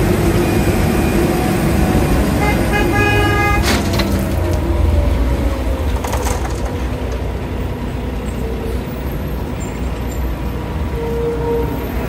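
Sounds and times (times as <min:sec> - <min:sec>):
heavy machinery rumbling: 0:00.0 - 0:09.8.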